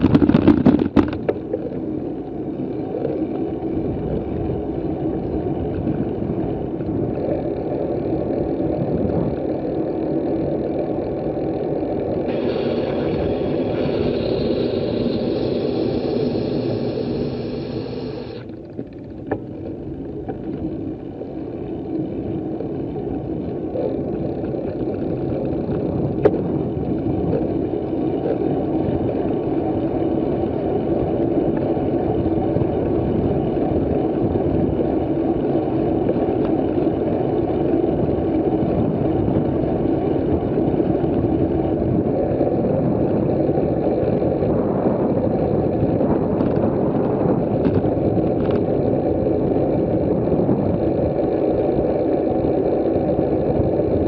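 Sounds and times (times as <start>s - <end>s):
wind rushing over microphone: 0.0s - 2.0s, 2.8s - 19.4s, 20.3s - 54.0s.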